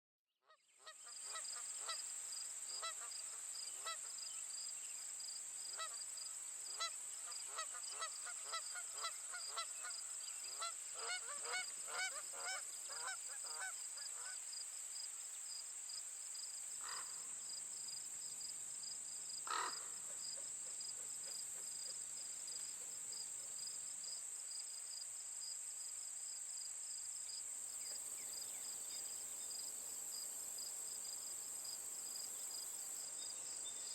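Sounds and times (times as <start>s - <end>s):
high-pitched insect chorus: 1.1s - 33.9s.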